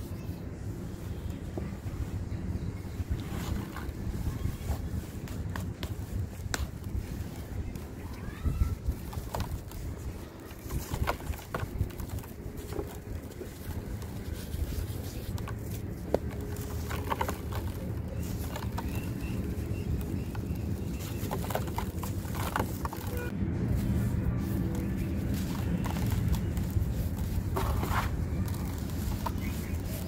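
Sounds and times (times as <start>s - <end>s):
dry sand crumbling: 1.1s - 30.0s
soft crackles and knocks: 3.1s - 30.0s.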